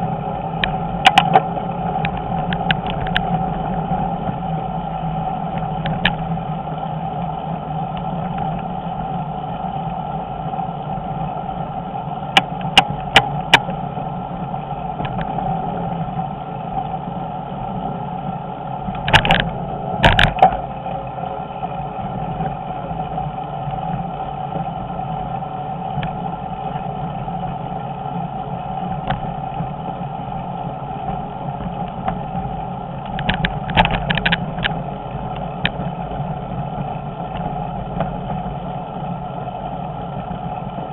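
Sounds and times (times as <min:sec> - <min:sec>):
bicycle rattle: 0:00.0 - 0:40.9
bicycle riding noise: 0:00.0 - 0:40.9.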